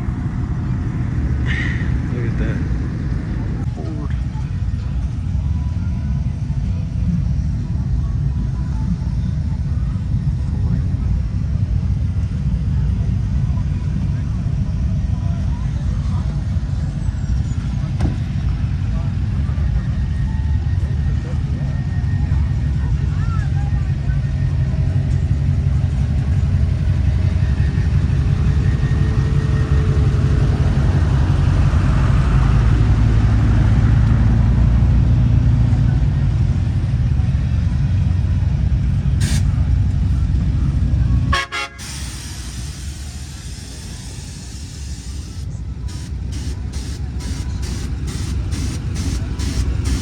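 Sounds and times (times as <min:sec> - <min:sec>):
low rumble of motor vehicles: 0:00.0 - 0:50.0.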